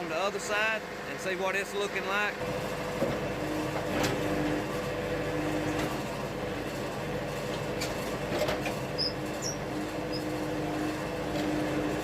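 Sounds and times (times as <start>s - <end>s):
sawmill running with low hum: 0.0s - 12.0s.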